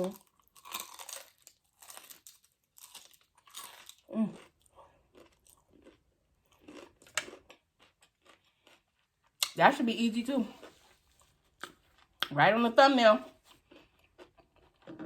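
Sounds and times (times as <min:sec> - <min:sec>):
crunchy food chewing: 0:00.0 - 0:09.6, 0:10.4 - 0:12.4, 0:13.3 - 0:15.0.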